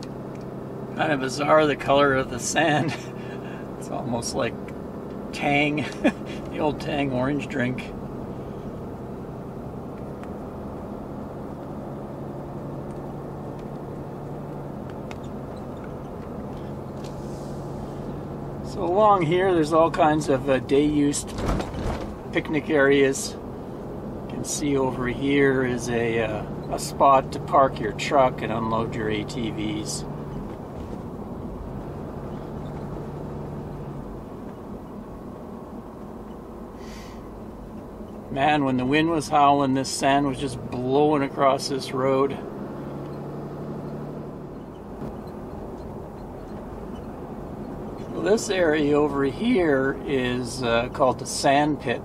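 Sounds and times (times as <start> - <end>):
road and engine noise inside vehicle: 0.0 - 52.0.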